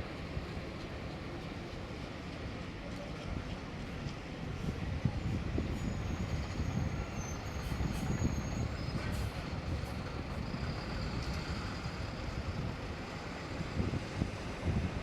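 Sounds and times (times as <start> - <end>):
train cars rumbling and clattering: 0.0 - 15.0.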